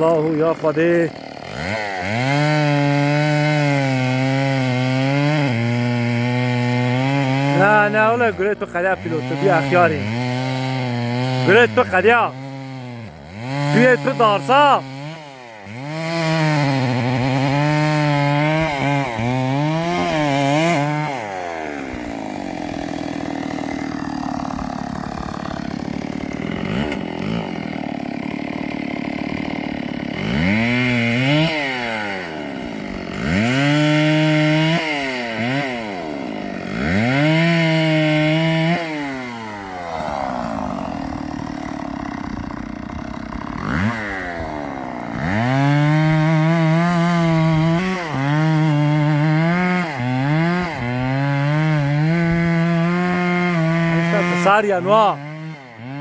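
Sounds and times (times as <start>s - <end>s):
chainsaw revving and idling: 0.0s - 56.0s.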